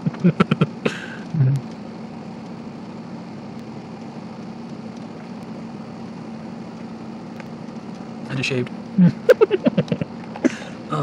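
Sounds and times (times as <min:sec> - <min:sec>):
machinery room hum: 0:00.0 - 0:11.0.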